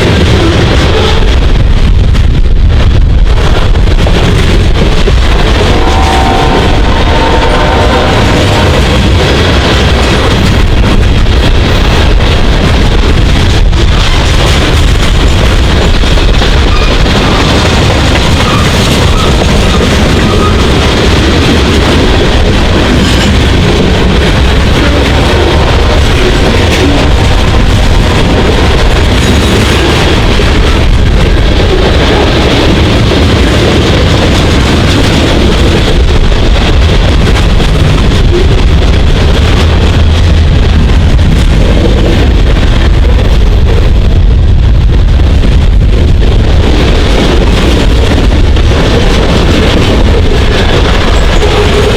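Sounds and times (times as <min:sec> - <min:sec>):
freight train rumbling past: 0:00.0 - 0:51.9.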